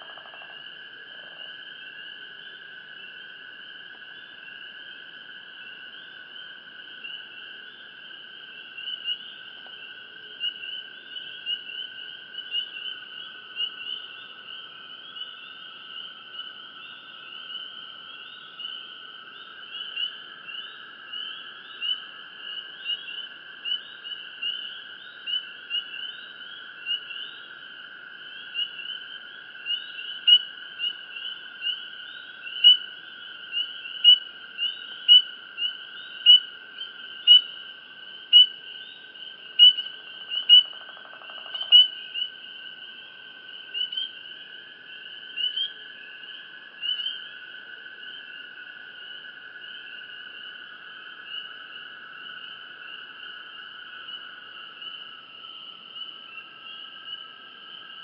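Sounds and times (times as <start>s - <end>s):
high rapid cricket chirps: 0.0s - 58.0s.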